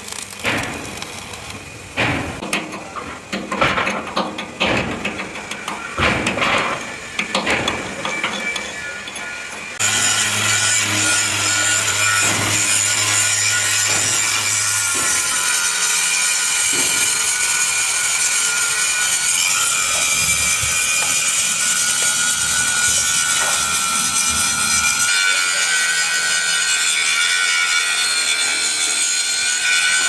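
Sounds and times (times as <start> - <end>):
angle grinder on steel: 0.0 - 30.0.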